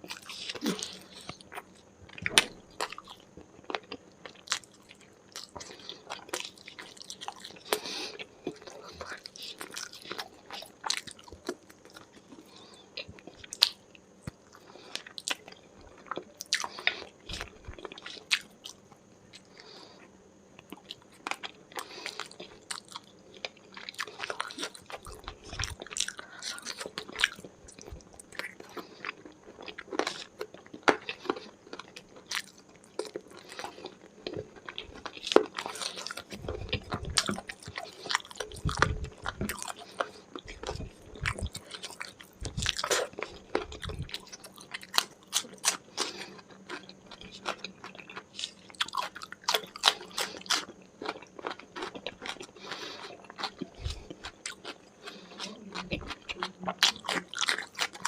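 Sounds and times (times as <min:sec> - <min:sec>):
chewing and biting: 0:00.0 - 0:19.6, 0:20.6 - 0:58.0.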